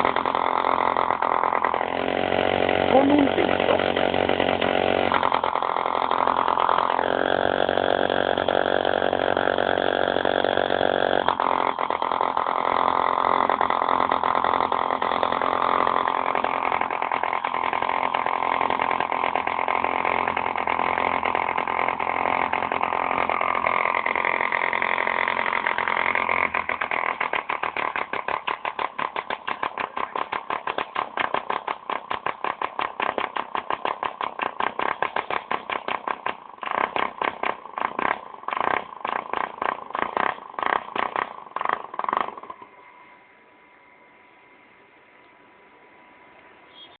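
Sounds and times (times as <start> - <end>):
model diesel engine running: 0.0 - 43.3.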